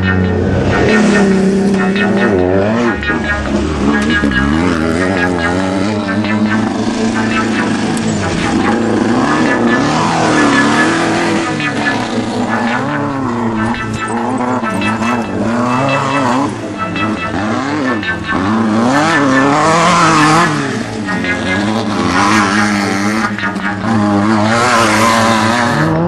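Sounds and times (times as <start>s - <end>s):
race vehicle engines revving: 0.0s - 26.0s
rushing noise: 0.0s - 26.0s.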